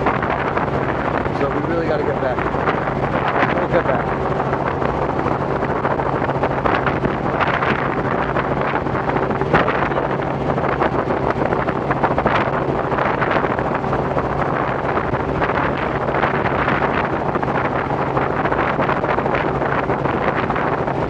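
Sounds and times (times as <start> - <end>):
helicopter engine and rotors droning: 0.0 - 21.0
wind buffeting microphone: 0.0 - 21.0.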